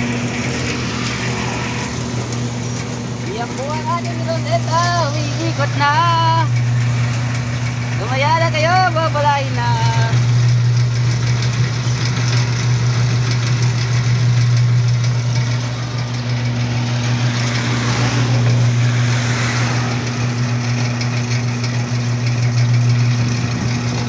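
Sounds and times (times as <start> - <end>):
mixer drum rattling: 0.0 - 24.0
mortar mixer humming: 0.0 - 24.0.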